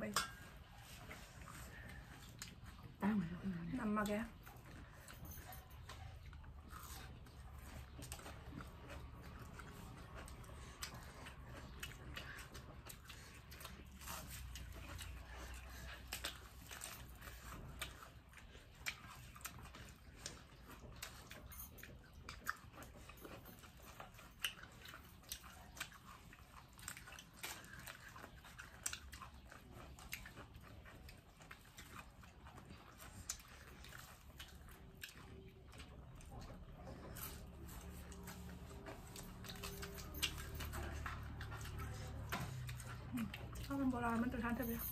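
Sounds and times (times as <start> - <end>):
faint chewing and crunching: 0.0 - 44.9.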